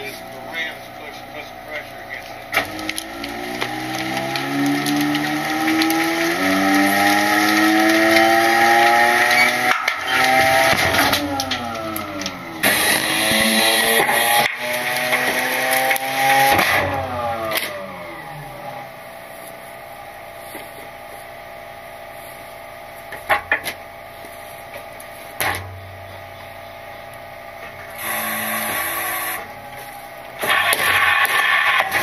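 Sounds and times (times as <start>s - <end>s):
garbage truck engine: 0.0s - 32.0s.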